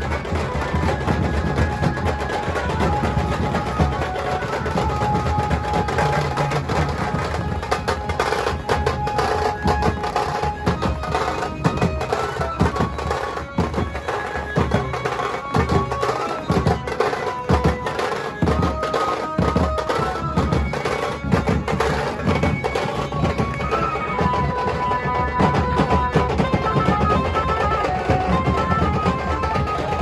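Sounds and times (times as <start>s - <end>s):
loud fast drumming: 0.0s - 30.0s.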